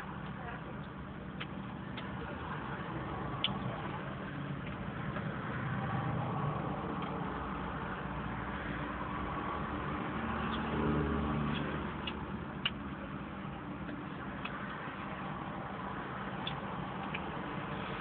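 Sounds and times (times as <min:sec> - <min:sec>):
low car rumble: 0:00.0 - 0:18.0.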